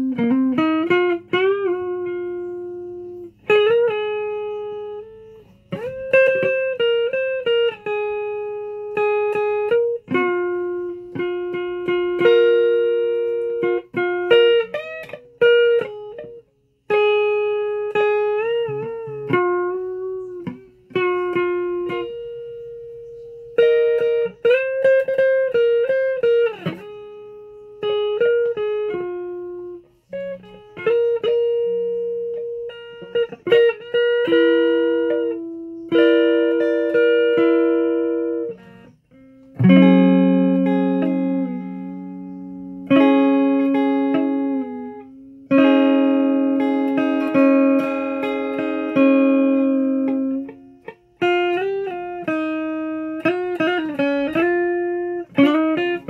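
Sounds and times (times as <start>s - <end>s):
guitar picking slow melody: 0.0s - 56.0s.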